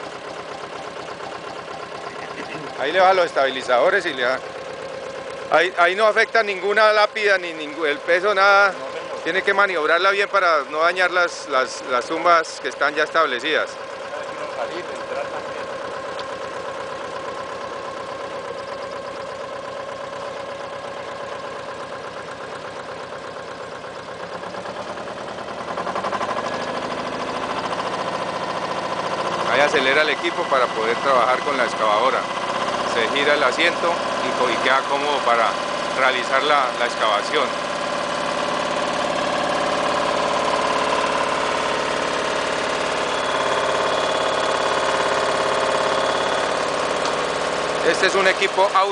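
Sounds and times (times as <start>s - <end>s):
small dumper engine revving: 0.0s - 48.9s.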